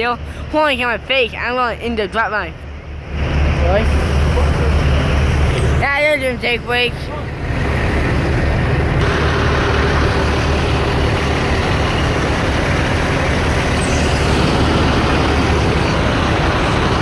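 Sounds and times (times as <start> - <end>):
diesel engine brake chatter: 2.7 - 17.0.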